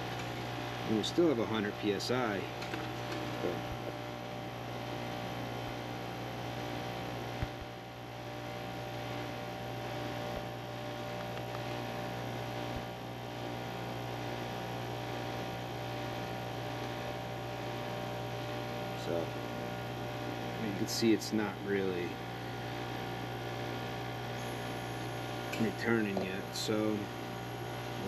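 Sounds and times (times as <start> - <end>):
air conditioning unit humming: 0.0 - 28.0.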